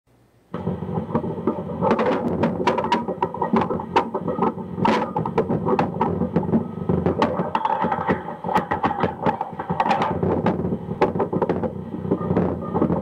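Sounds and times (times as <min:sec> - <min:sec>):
layered steady tones and noise: 0:00.1 - 0:13.0
sharp irregular clicks: 0:01.0 - 0:13.0.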